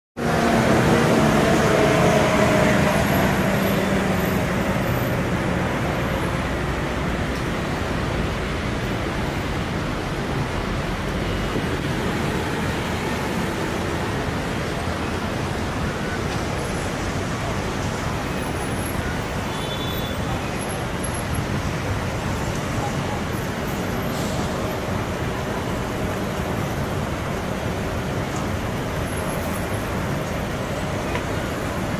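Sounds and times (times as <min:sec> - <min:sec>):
city street traffic: 0:00.2 - 0:31.9.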